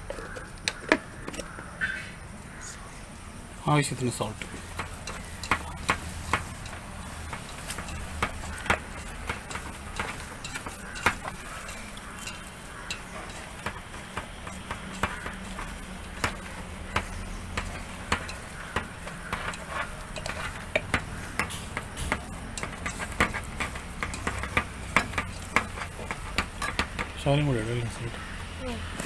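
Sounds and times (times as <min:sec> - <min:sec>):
spoon scraping and knocking pot: 0:04.3 - 0:29.0.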